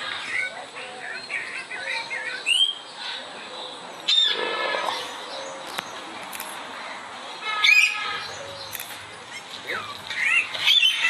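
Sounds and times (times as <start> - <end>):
birds calling: 0.0 - 11.0
steady background noise: 0.0 - 11.0.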